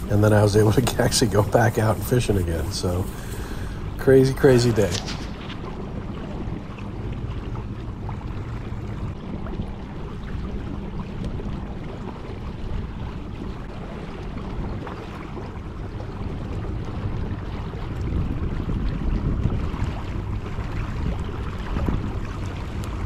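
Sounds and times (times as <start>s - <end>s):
water rushing along kayak hull: 0.0s - 23.0s
wind buffeting microphone: 0.0s - 23.0s.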